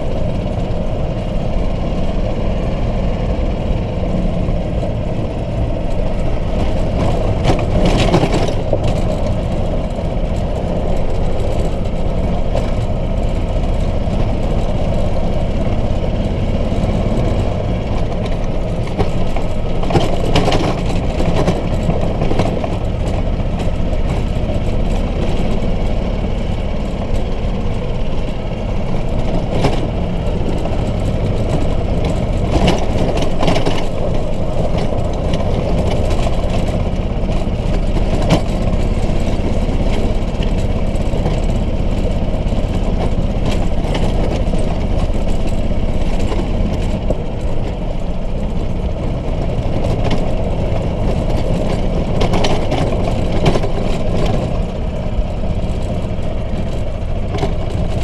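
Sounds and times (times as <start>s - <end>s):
small cart engine running: 0.0s - 58.0s
body and windshield rattling: 4.6s - 58.0s.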